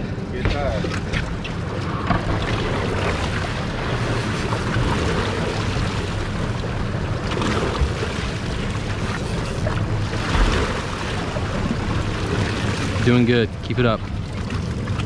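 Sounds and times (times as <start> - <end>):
outboard motors running: 0.0 - 15.0
water washing around stern: 0.0 - 15.0.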